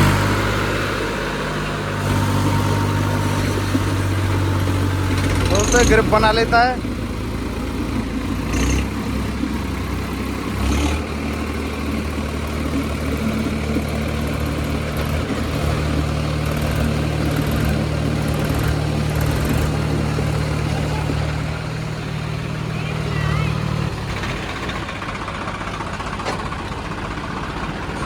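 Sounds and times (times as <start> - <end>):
diesel tractor engines running hard: 0.0 - 28.0.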